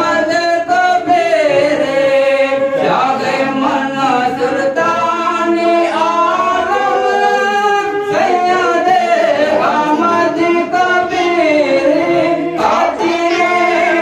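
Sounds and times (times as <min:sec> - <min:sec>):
man singing chant: 0:00.0 - 0:14.0.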